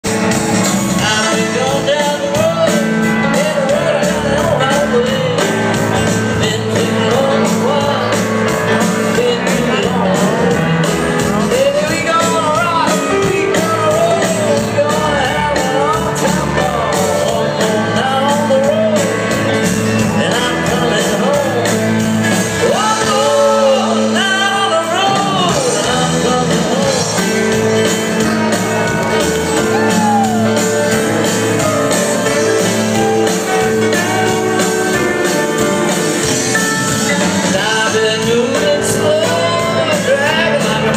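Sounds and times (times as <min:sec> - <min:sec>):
acoustic guitars: 0:00.0 - 0:40.9
drums: 0:00.0 - 0:40.9
keyboard: 0:00.0 - 0:40.9
upright bass: 0:00.0 - 0:40.9
lead singer: 0:00.1 - 0:40.9.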